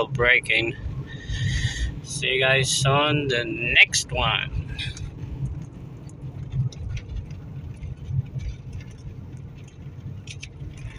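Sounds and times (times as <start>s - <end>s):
car engine rumbling: 0.0s - 10.9s.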